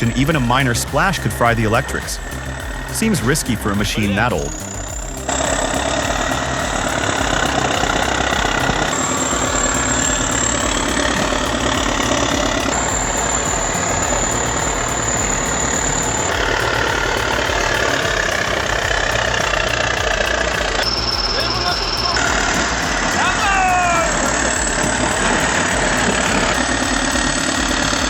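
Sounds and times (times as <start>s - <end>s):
bulldozer diesel engine rumble: 0.0s - 28.0s.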